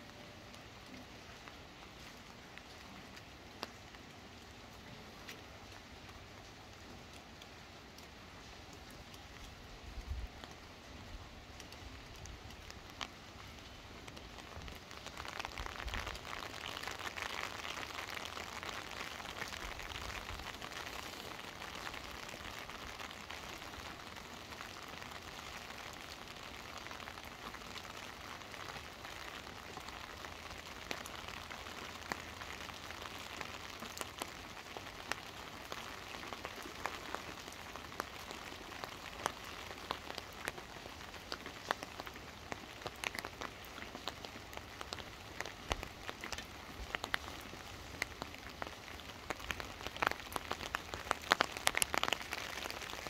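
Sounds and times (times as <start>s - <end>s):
rain hissing: 0.0s - 53.0s.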